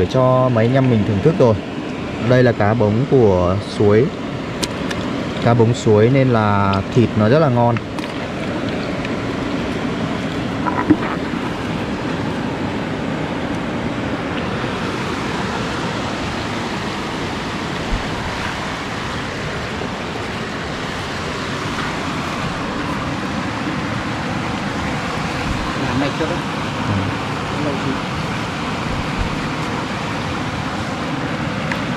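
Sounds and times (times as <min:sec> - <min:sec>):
stream water running: 0:00.0 - 0:31.9.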